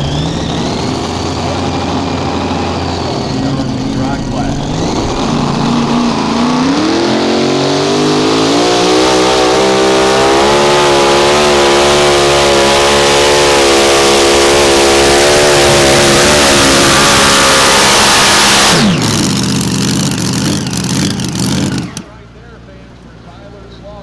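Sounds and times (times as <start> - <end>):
tractor engine running loud: 0.0 - 22.1.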